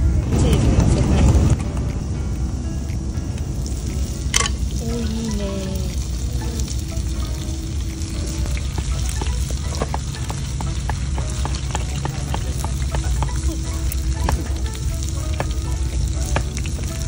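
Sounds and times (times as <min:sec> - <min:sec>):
food sizzling on a griddle: 0:03.0 - 0:17.0.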